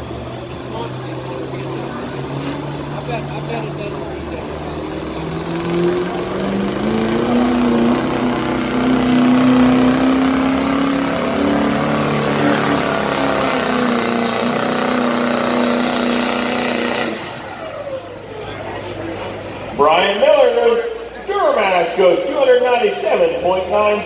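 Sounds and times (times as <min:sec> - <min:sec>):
diesel truck engine at full throttle: 0:00.0 - 0:24.0.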